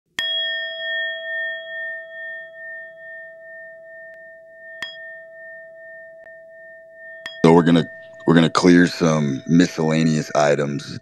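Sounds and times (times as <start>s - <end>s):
struck metallic chime ringing: 0.1s - 11.0s.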